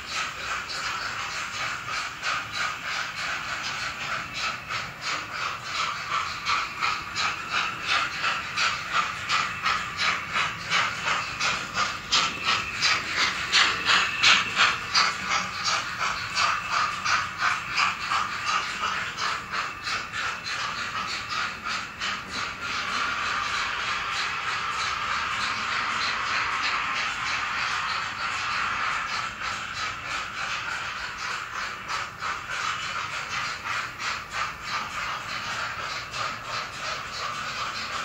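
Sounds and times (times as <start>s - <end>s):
model train whirring and clicking: 0.0s - 38.0s.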